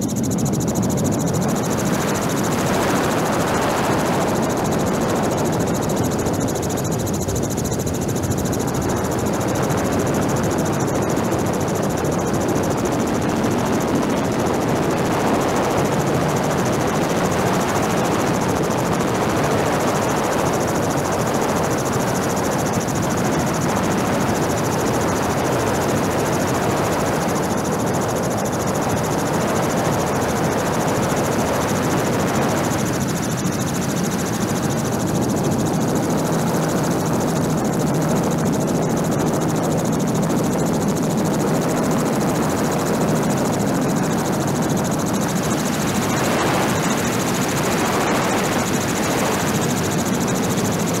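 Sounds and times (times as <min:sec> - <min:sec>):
helicopter rotor and engine drone: 0:00.0 - 0:51.0.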